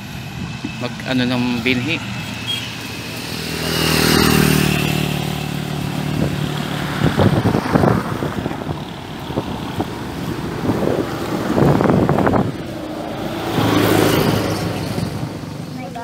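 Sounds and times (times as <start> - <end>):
wind buffeting microphone: 0.0 - 15.8
road traffic: 0.0 - 16.0
vehicle engine passing: 0.0 - 16.0.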